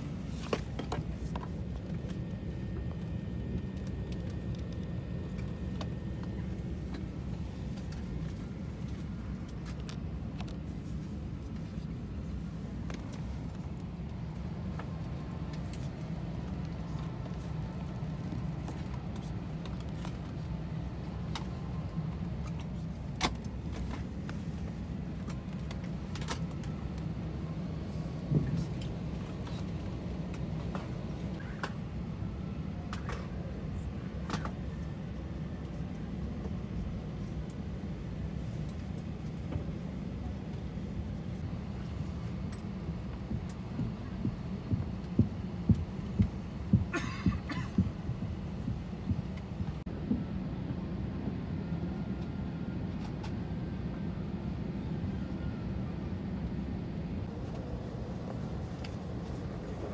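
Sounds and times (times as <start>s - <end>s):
cabin air-conditioning hum: 0.0s - 59.9s.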